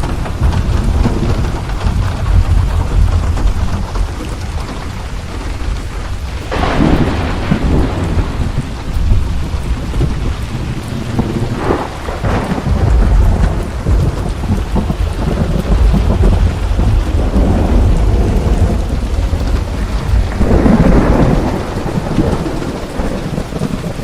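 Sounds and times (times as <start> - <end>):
deep rolling thunder: 0.0 - 24.0
heavy rain: 0.0 - 24.0
sharp thunder cracks: 0.0 - 24.0.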